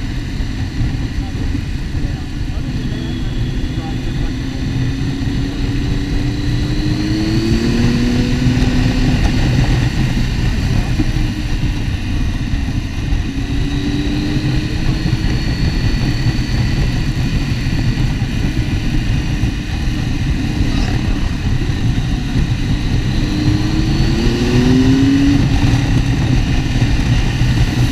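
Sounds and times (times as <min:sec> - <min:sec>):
motorcycle engine running: 0:00.0 - 0:27.9
rushing ride noise: 0:00.0 - 0:27.9.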